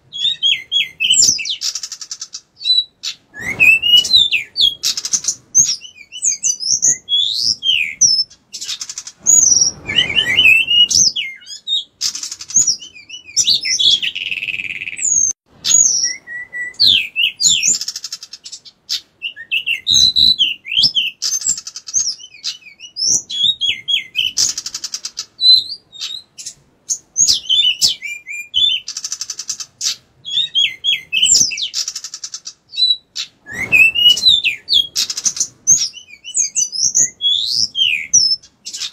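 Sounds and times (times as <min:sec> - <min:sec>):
bird singing whistled phrases: 0:00.1 - 0:38.9.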